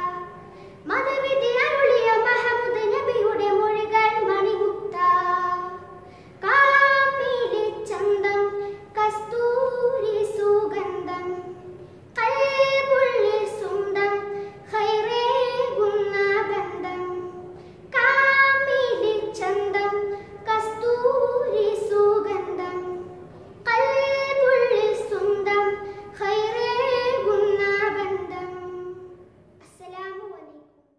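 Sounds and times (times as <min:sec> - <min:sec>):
boy singing unaccompanied: 0:00.0 - 0:30.6.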